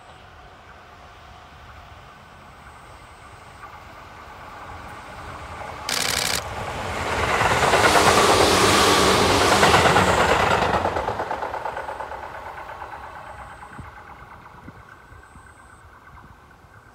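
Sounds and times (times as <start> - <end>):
electric train rumbling past: 0.0 - 16.9.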